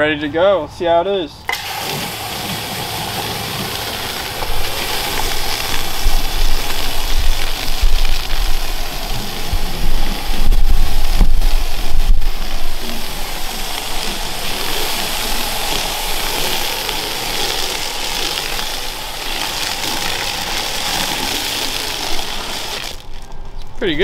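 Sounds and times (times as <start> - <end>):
foam gun spray hiss: 1.5 - 23.0.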